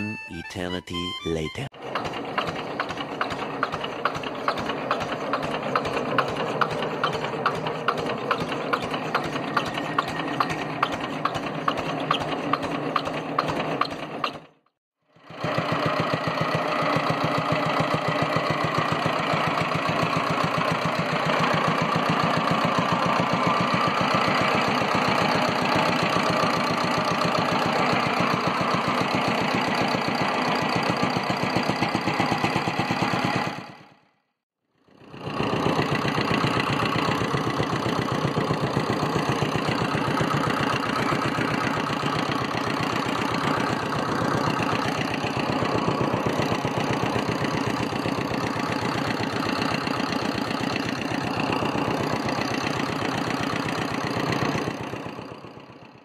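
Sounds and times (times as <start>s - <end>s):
diesel engine knocking: 1.8s - 34.1s, 34.8s - 56.0s.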